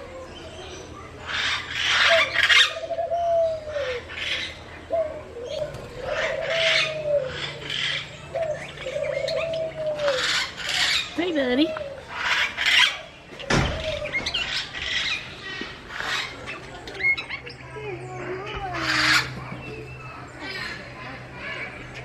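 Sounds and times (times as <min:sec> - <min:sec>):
bird harsh raspy calls: 0:00.0 - 0:22.0.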